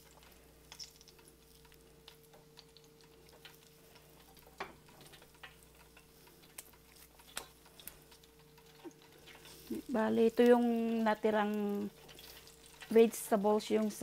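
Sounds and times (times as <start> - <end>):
hot oil popping and crackling: 0.0 - 14.0
low steady hum: 0.0 - 14.0.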